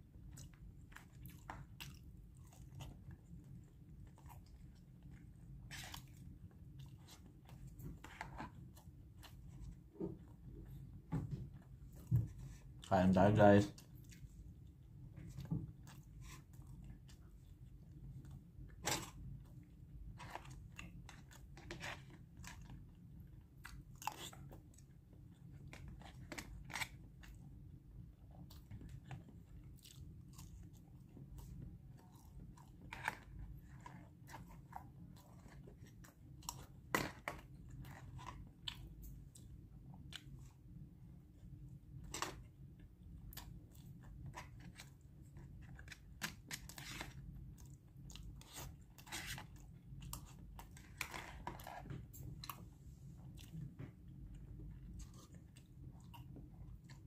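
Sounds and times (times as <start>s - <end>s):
man chewing food: 0.0s - 12.9s, 13.7s - 57.0s
low room hum: 0.0s - 57.0s.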